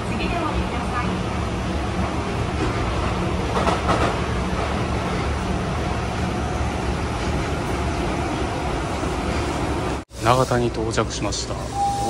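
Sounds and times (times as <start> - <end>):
subway wheels rumbling on rail: 0.0 - 12.0.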